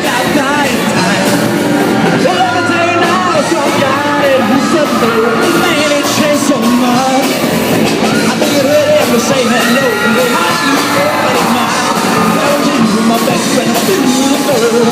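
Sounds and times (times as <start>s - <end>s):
drums: 0.0s - 14.9s
rock band playing live: 0.0s - 14.9s
singer's lead vocal: 0.0s - 14.9s.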